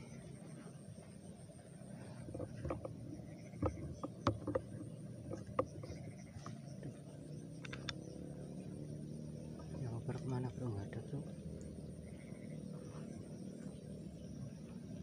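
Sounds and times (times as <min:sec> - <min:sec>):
faint high-pitched drone: 0:00.0 - 0:15.0.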